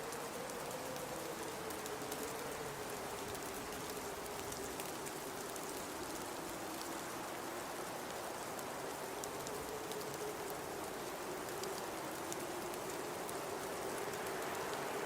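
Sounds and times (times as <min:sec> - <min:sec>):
blizzard wind hiss: 0:00.0 - 0:15.0
faint ticks: 0:00.0 - 0:15.0.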